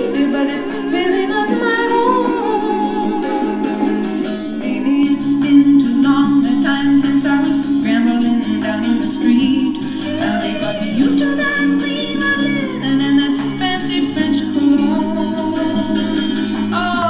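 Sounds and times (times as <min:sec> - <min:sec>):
folk song through small speaker: 0:00.0 - 0:17.0.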